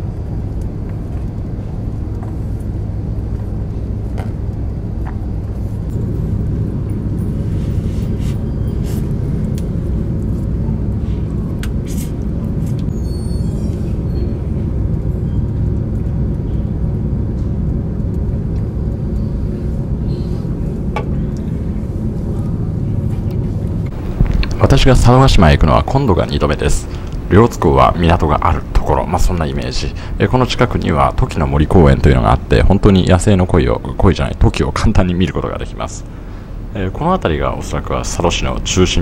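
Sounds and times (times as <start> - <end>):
ship engines droning: 0.0 - 39.0.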